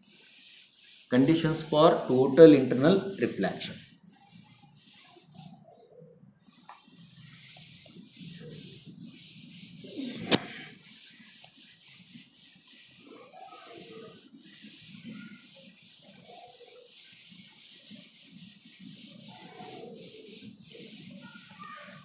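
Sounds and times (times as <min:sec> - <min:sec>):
eraser scrubbing chalkboard: 0:00.0 - 0:22.0.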